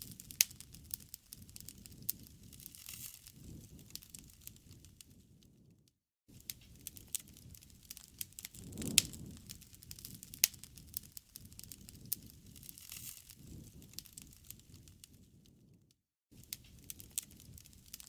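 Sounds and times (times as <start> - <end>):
wood crackling in bonfire: 0.0 - 5.7, 6.4 - 15.8, 16.4 - 18.0
low rumble of flames: 0.0 - 5.8, 6.4 - 18.0.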